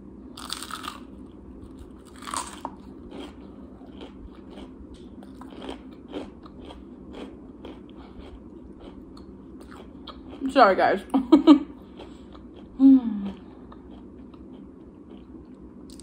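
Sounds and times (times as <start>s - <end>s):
person crunching fried food: 0.4s - 10.4s, 11.9s - 16.0s.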